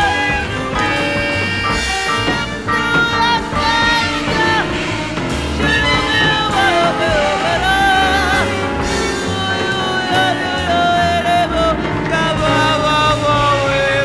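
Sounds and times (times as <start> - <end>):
song with band accompaniment: 0.0 - 14.0.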